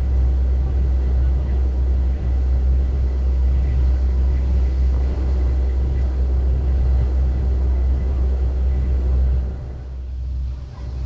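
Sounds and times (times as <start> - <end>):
ferry engine rumbling: 0.0 - 11.0.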